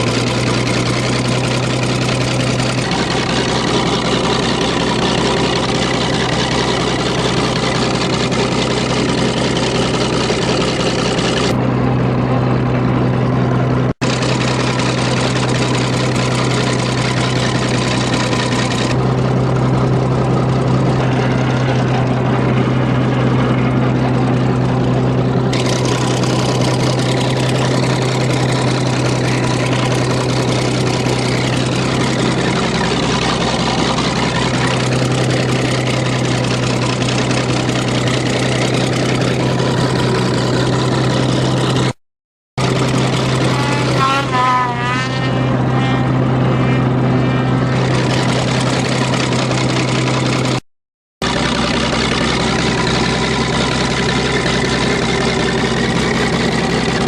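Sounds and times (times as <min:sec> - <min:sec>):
engine running: 0:00.0 - 0:42.0, 0:42.6 - 0:50.6, 0:51.2 - 0:57.0.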